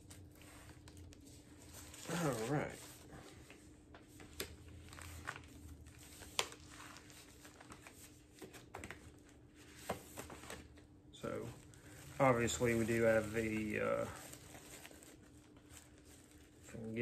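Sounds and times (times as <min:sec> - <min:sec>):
plastic shrink wrap crinkling: 0:00.0 - 0:17.0.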